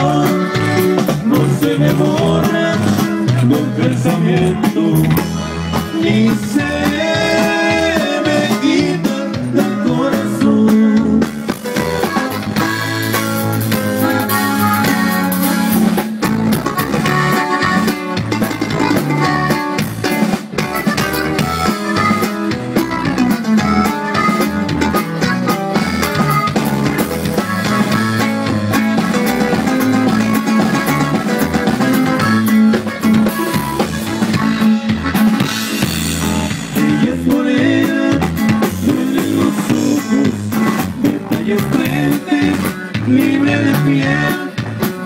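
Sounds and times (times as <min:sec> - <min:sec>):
drums: 0:00.0 - 0:45.0
live band playing: 0:00.0 - 0:45.0.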